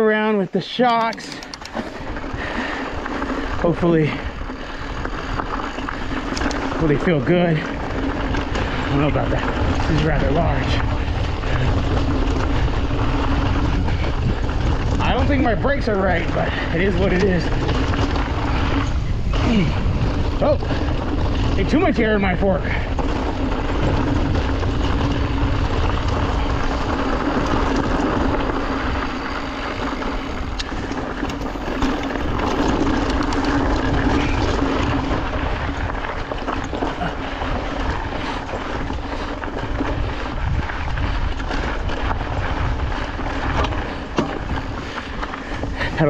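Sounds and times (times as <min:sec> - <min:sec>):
wind and tyre noise: 0:00.0 - 0:46.0
bike knocks and rattles: 0:04.1 - 0:46.0.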